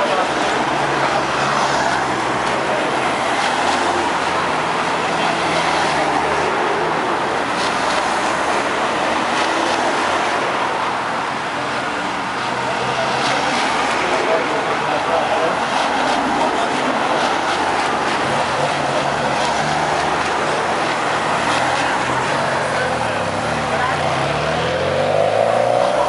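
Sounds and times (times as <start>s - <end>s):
cars passing at low speed: 0.0s - 26.0s
roadside crowd noise: 0.0s - 26.0s.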